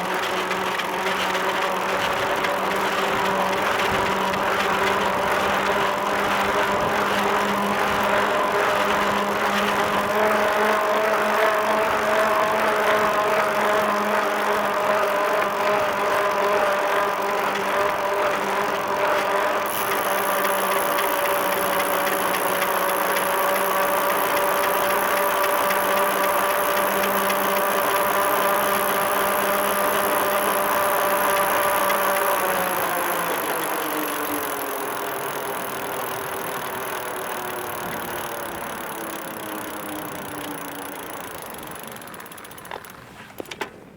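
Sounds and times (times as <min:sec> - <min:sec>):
bicycle wheels whirring: 0:00.0 - 0:43.9.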